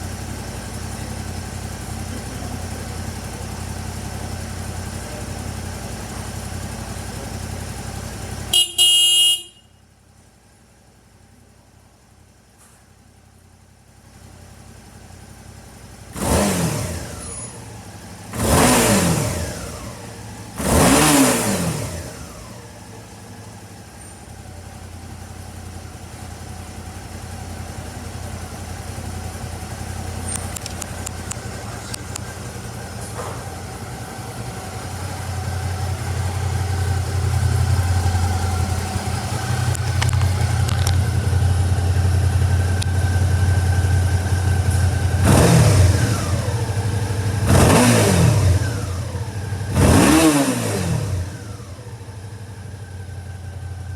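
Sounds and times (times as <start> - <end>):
motorcycle engine revving and idling: 0.0 - 53.9.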